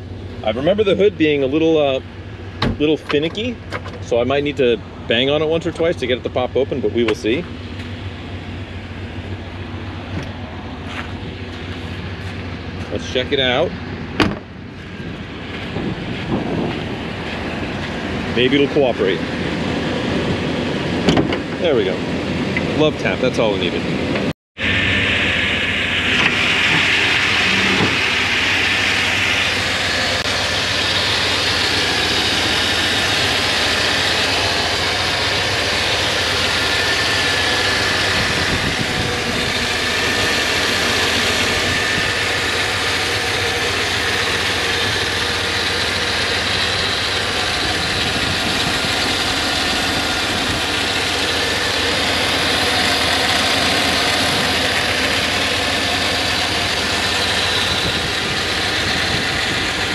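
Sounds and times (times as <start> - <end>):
pickup truck engine idling: 0.0 - 59.9.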